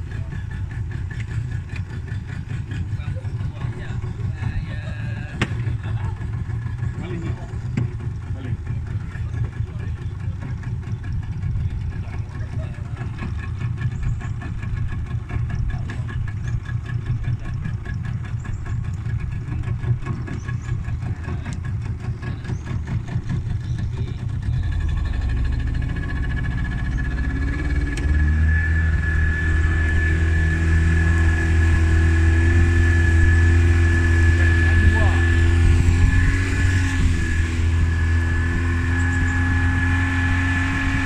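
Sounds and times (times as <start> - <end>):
high engine whine: 0.0 - 41.0
outboard motor droning: 0.0 - 41.0.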